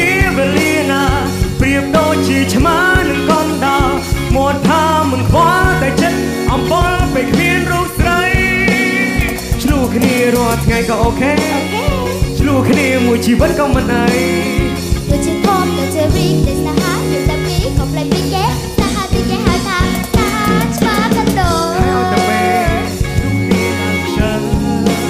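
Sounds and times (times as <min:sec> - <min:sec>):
backing band steady beat: 0:00.0 - 0:25.0
pop duet singing: 0:00.0 - 0:25.0.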